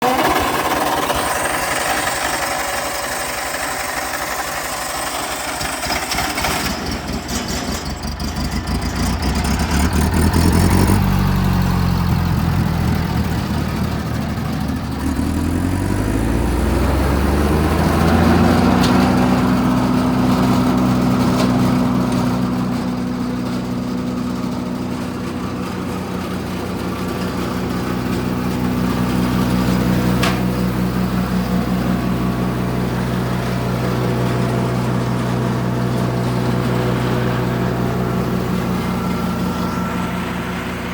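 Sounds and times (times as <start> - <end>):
wood chipper engine running: 0.0 - 40.9.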